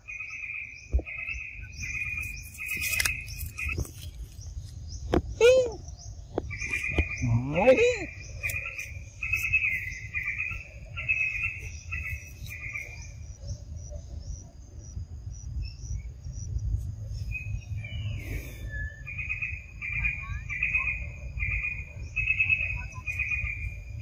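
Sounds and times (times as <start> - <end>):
insects chirping in trills: 0.0 - 24.0.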